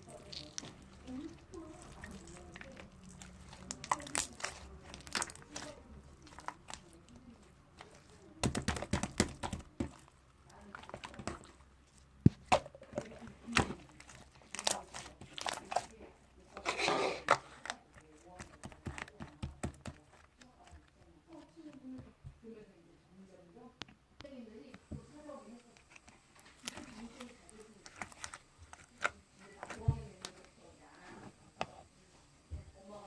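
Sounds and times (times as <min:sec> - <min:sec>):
slime squish: 0:00.0 - 0:21.9, 0:25.4 - 0:31.8.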